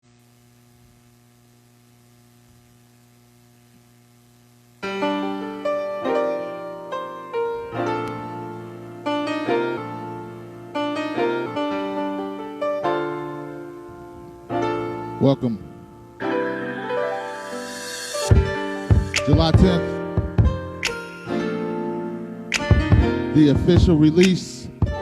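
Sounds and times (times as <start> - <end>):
faint steady hum: 0.0 - 25.0
piano chords: 4.8 - 25.0.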